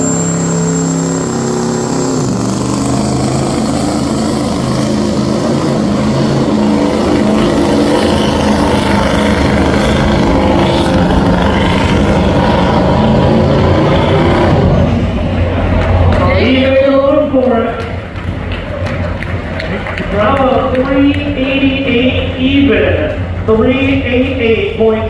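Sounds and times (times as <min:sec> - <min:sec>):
truck engine at high revs: 0:00.0 - 0:25.0
tyre and track noise: 0:00.0 - 0:25.0.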